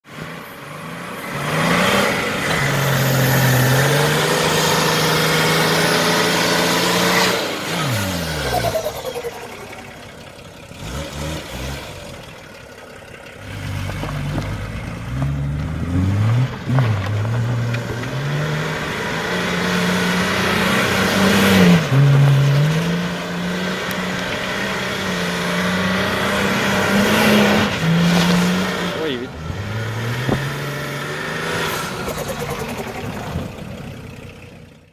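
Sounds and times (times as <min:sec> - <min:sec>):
diesel engine revving: 0:00.0 - 0:34.9.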